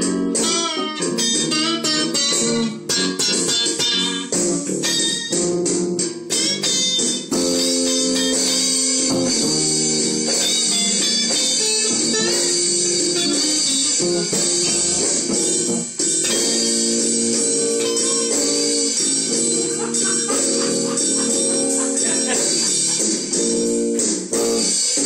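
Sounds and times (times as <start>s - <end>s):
electric guitars playing blues: 0.0s - 25.0s.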